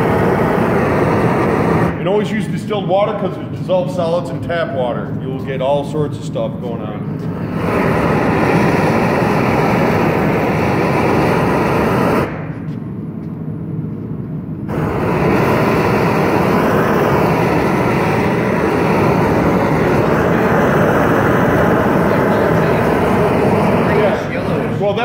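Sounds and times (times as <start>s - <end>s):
gas torch flame rushing: 0.0s - 13.0s, 14.6s - 25.0s.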